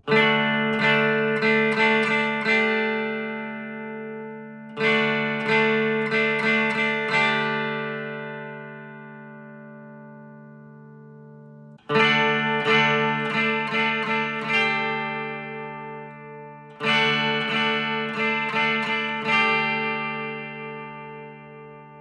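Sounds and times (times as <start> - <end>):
clean electric guitar chords: 0.0 - 22.0.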